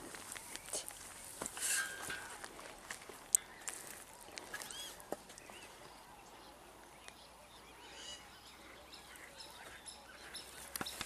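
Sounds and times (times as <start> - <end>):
small birds chirping: 2.0 - 11.0.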